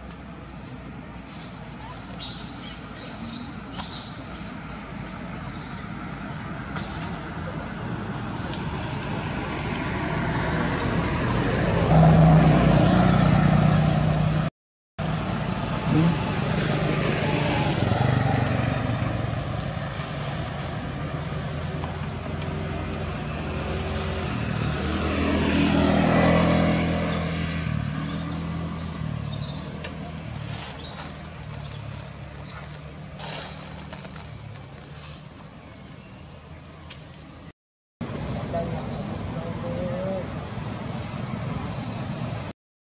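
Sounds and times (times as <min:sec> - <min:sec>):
motor vehicles passing: 0:00.0 - 0:42.5.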